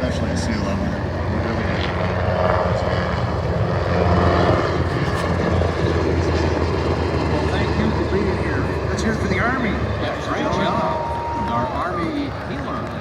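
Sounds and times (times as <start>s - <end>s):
helicopters flying over: 0.0s - 13.0s.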